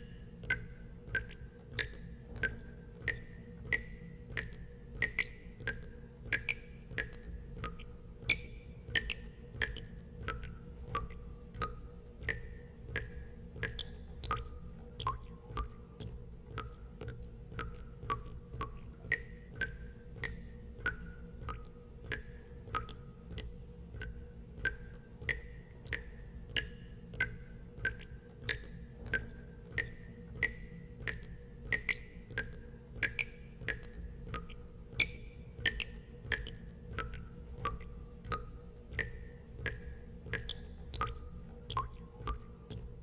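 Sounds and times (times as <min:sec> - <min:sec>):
steady low hum: 0:00.0 - 0:43.0
water drops plinking into water: 0:00.0 - 0:43.0.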